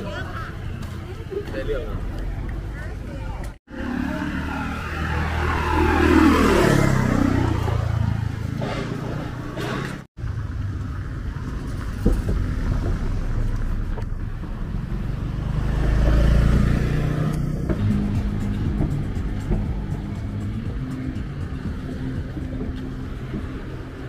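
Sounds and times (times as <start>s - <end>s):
traffic rumble: 0.0s - 24.0s
motorbike passing: 3.7s - 24.0s.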